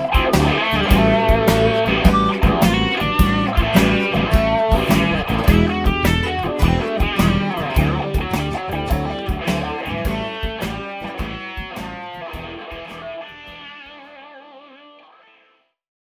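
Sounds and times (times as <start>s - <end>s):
backing track with drums and bass: 0.0s - 13.5s
electric guitar playing blues lead: 0.0s - 15.6s.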